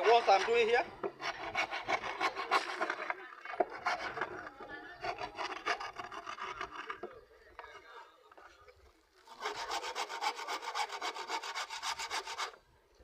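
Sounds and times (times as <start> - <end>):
hand tool working wood: 0.0 - 7.1, 9.3 - 12.6.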